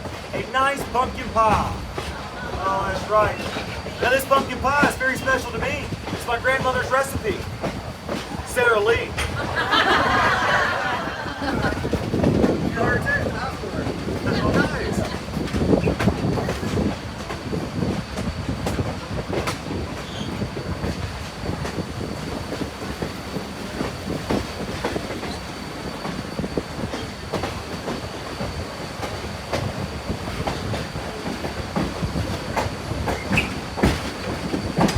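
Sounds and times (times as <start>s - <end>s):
train cars rumbling: 0.0s - 34.9s.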